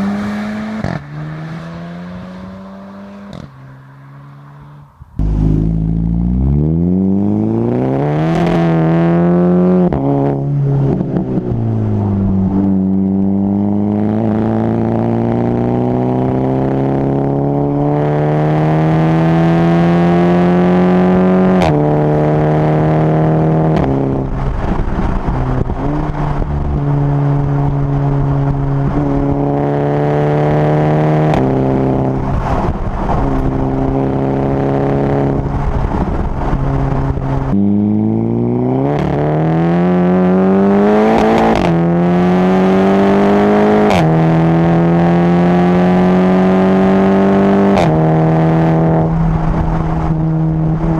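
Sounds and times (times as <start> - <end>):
car accelerating through gears: 0.0 - 50.9.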